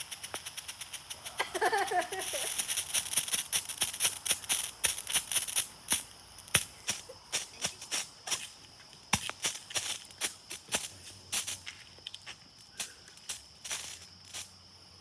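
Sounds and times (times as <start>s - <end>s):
firework crackling and fizzing: 0.0s - 14.7s.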